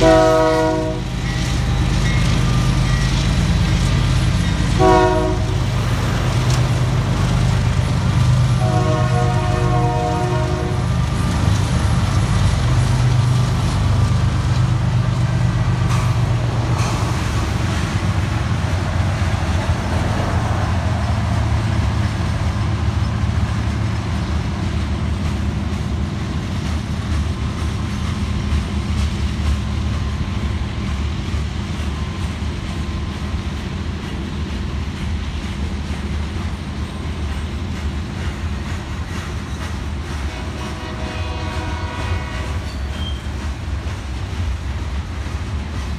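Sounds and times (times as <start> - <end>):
diesel locomotive engine drone: 0.0 - 45.9
steel wheels rumbling on rail: 0.0 - 45.9.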